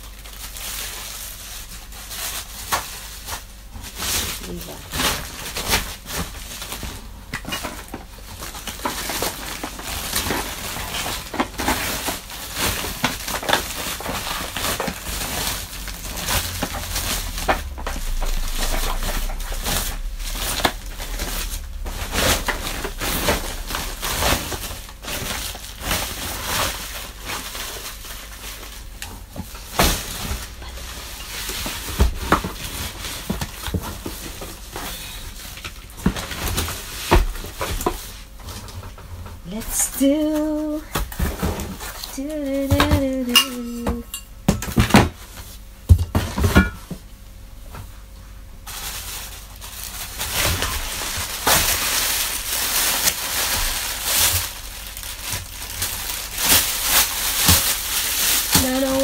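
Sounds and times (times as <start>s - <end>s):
plastic bag crinkling: 0.0s - 44.1s, 48.0s - 59.0s.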